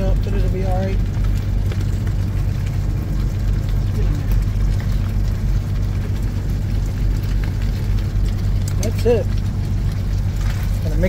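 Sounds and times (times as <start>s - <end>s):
idling diesel truck engine: 0.0s - 11.0s.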